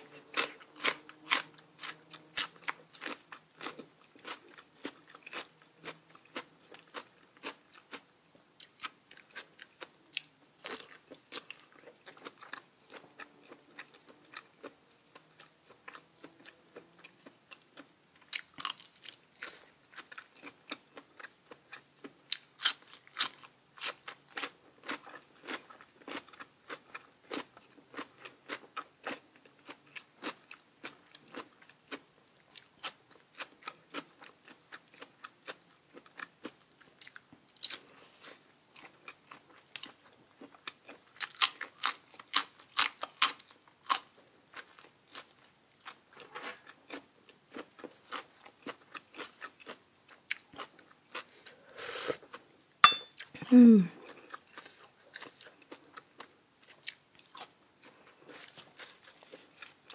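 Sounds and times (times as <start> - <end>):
person chewing crunchy vegetables: 0.0 - 59.9.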